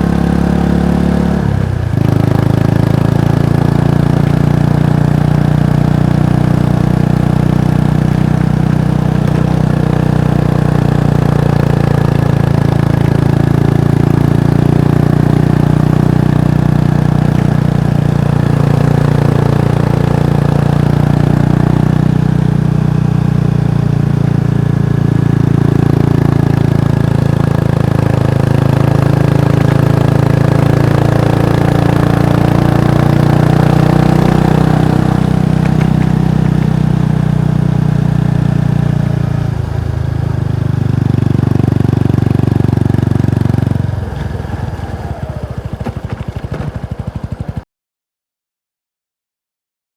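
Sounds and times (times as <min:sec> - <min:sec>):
motorcycle engine droning: 0:00.0 - 0:47.6.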